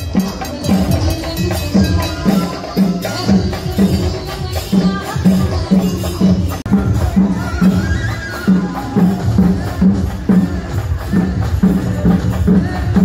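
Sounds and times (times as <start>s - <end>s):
music with steady drum beat: 0.0s - 13.0s.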